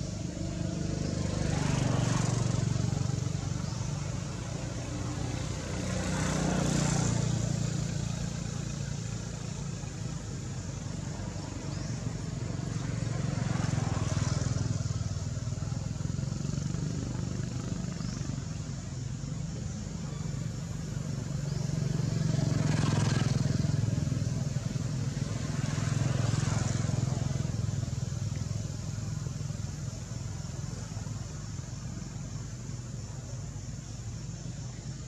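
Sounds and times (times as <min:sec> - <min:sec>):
passing vehicles engine hum: 0:00.0 - 0:35.0.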